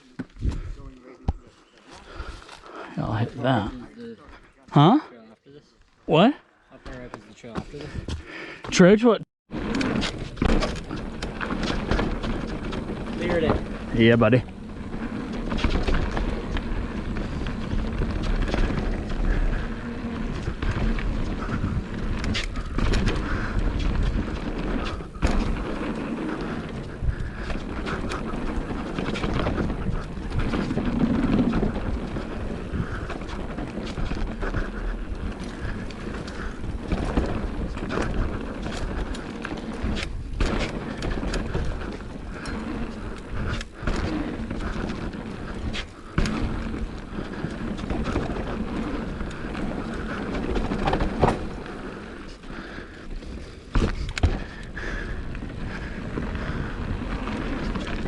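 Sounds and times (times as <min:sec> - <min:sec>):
bike tyres rushing on dirt: 0:00.0 - 0:04.9, 0:05.6 - 0:58.0
bike knocking and rattling: 0:06.8 - 0:58.0.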